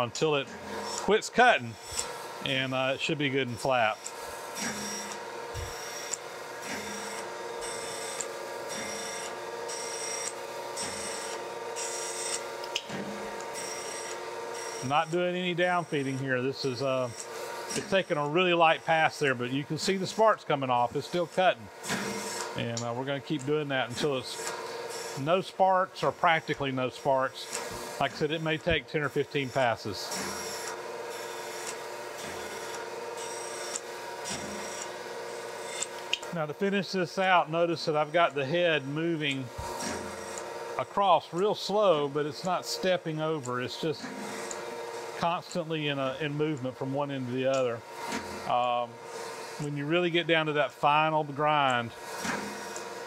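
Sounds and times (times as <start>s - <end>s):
grinder motor hum: 0.0s - 53.0s
grinding wheel hiss: 0.0s - 53.0s.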